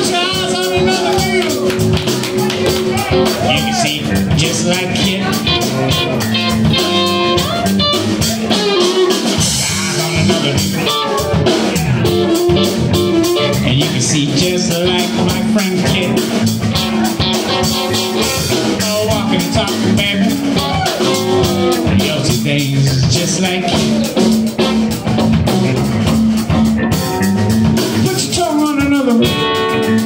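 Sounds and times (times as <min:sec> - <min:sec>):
drum kit: 0:00.0 - 0:30.0
electric bass: 0:00.0 - 0:30.0
electric guitar: 0:00.0 - 0:30.0.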